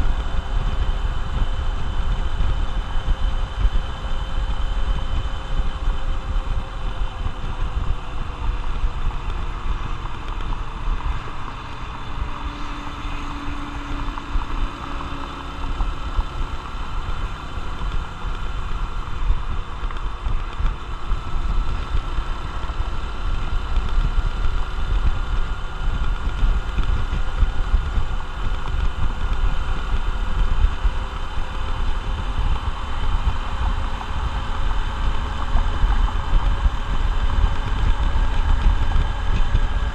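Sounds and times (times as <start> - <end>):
heavy low rumble: 0.0 - 39.9
motorcycle engine running: 0.0 - 39.9.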